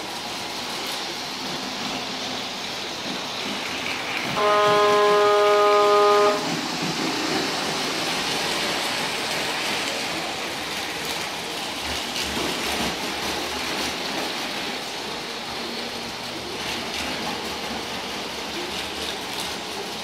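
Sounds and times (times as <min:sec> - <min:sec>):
model train wheels rolling on track: 0:00.0 - 0:20.0.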